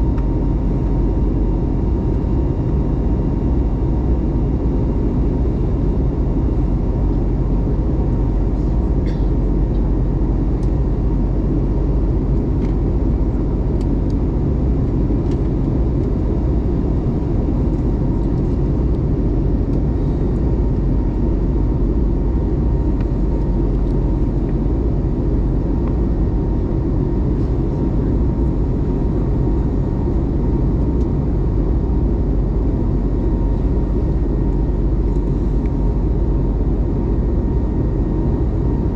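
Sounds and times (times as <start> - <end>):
aircraft cabin engine roar: 0.0 - 38.9.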